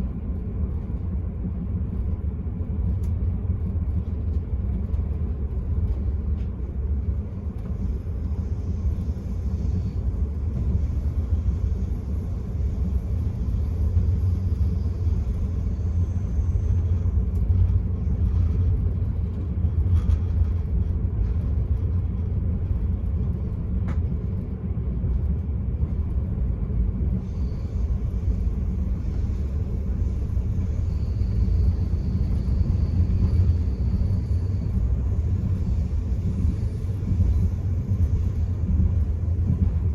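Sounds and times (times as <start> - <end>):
train running low rumble: 0.0 - 39.9.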